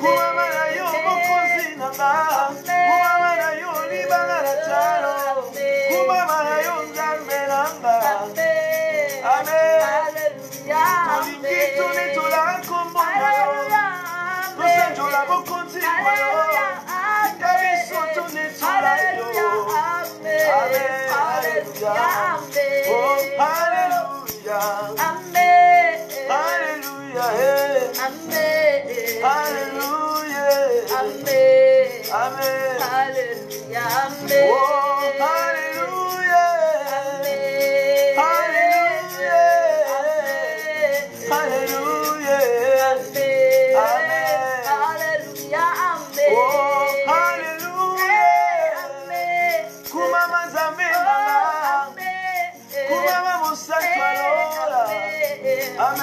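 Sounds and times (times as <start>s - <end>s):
man and woman singing: 0.0s - 56.0s
shaker rattling: 0.0s - 56.0s
strummed acoustic guitar: 0.0s - 56.0s.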